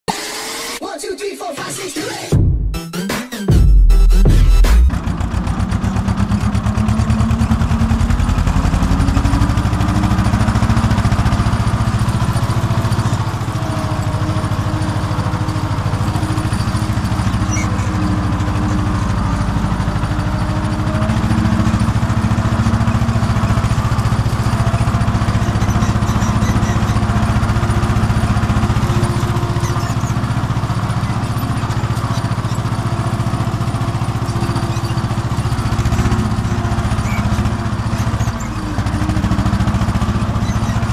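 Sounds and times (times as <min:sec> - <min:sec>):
tractor diesel engine under load: 0:04.3 - 0:40.9.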